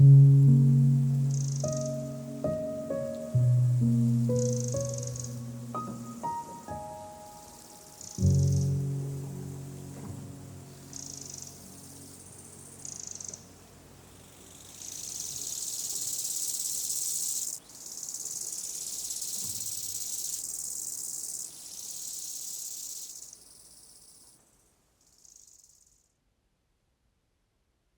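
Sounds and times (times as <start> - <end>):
insects chirring: 0.0 - 26.1.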